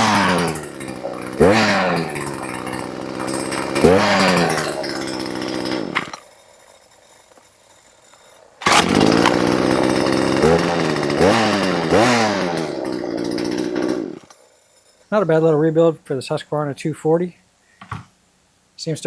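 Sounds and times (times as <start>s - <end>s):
chainsaw engine revving: 0.0s - 15.8s.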